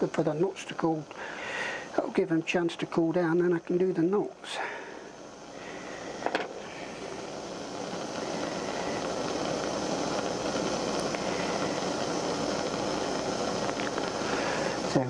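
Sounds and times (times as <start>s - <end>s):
blowtorch hissing: 0.0s - 15.0s.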